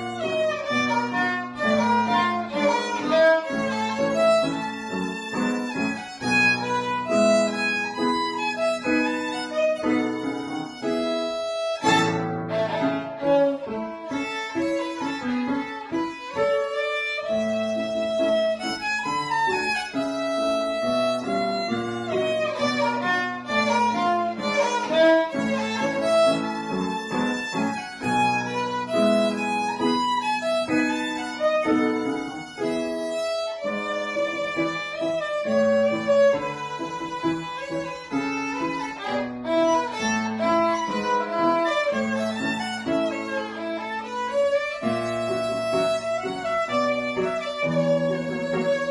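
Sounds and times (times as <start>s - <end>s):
violin playing classical piece: 0.0s - 48.9s.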